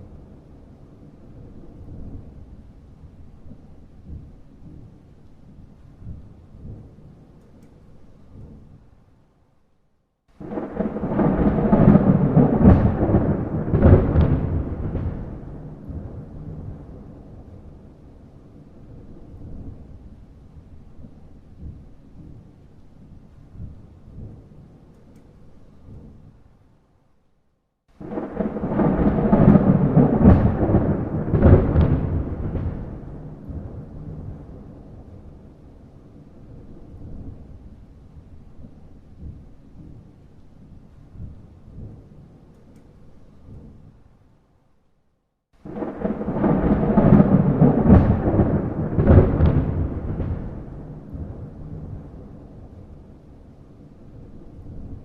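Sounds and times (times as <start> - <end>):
thunder rumbling with crackles: 0.0 - 9.3, 10.3 - 26.8, 27.9 - 44.4, 45.6 - 55.0
steady rain: 0.0 - 27.3, 27.9 - 45.0, 45.6 - 55.0.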